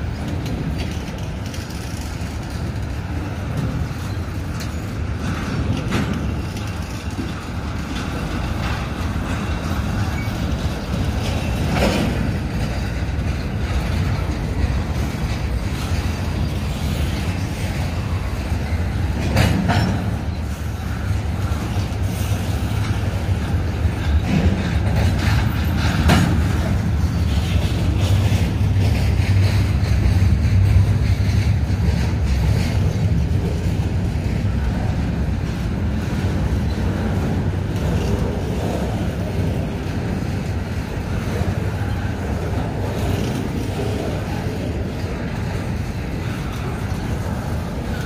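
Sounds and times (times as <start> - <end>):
train clanks: 0.0 - 48.0
train wheels rumbling on rails: 0.0 - 48.0.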